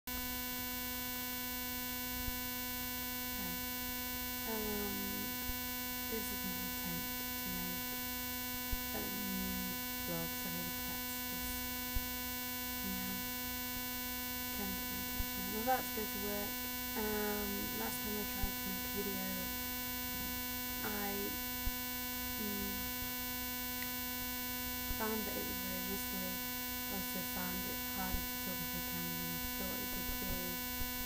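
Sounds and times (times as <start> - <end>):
electrical hum and whistle: 0.2 - 31.0.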